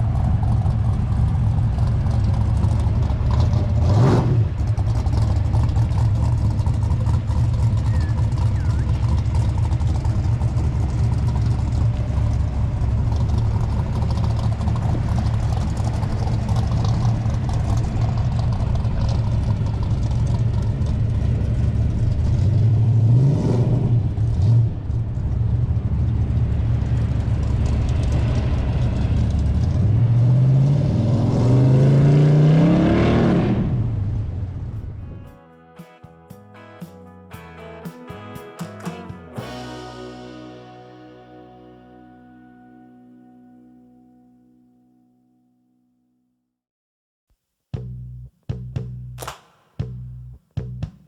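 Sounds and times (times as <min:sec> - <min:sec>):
car engine rumbling and accelerating: 0:00.0 - 0:38.2, 0:47.8 - 0:51.0.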